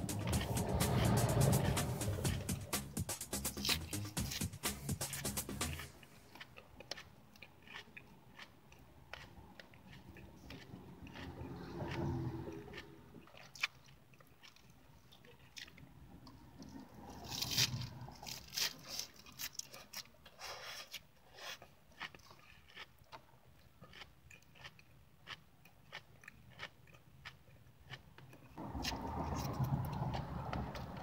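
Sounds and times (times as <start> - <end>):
person chewing crunchy lettuce: 0.0 - 31.0.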